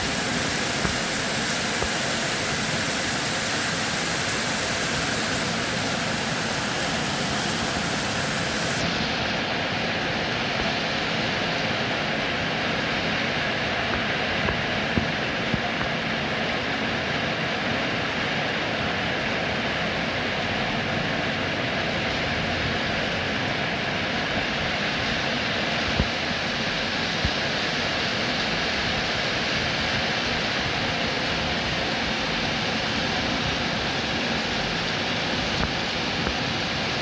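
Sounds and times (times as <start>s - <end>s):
steady rainfall: 0.0s - 37.0s.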